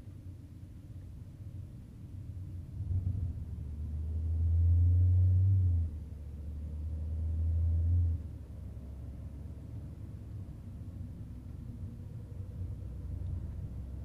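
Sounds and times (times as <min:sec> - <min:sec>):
car engine droning low: 0:00.1 - 0:14.0.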